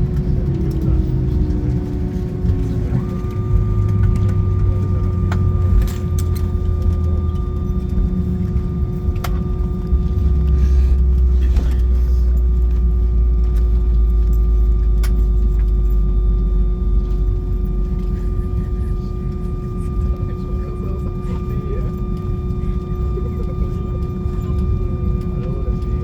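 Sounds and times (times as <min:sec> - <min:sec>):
airplane cabin rumble and hum: 0:00.0 - 0:26.0.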